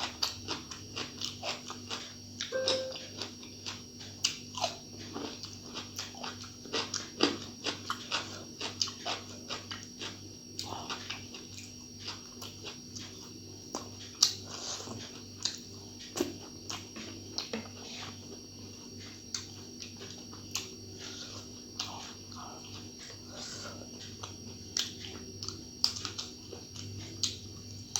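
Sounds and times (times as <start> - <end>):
low electrical hum: 0.0 - 27.9
person chewing with mouth clicks: 0.0 - 27.9.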